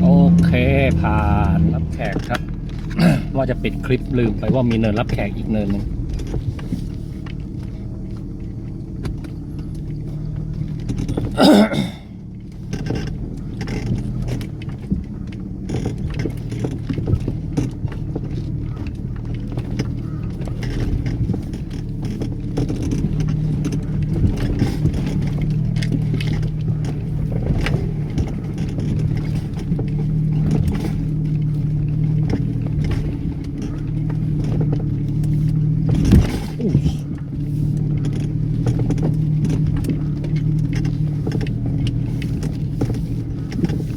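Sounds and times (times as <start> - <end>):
knocks and rattles: 0.0 - 43.9
vehicle engine at low revs: 0.0 - 43.9.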